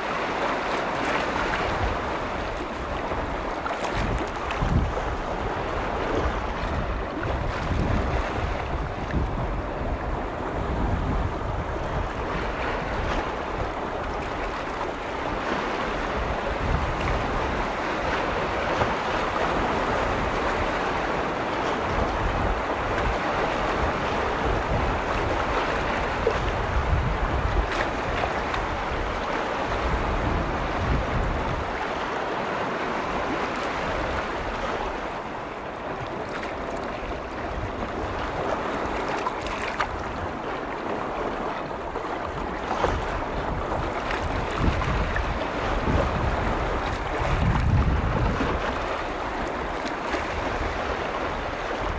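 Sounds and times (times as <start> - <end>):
lake waves lapping on shore: 0.0 - 51.9
wind rumbling on microphone: 0.0 - 51.9.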